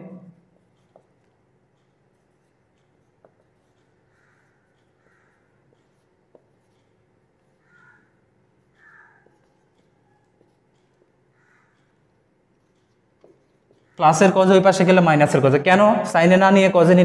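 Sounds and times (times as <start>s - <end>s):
marker scratching on whiteboard: 0.4s - 15.0s.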